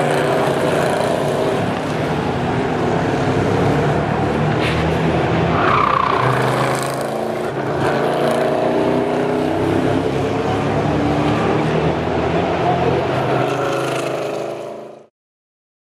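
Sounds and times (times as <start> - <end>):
race cars passing: 0.0 - 15.1.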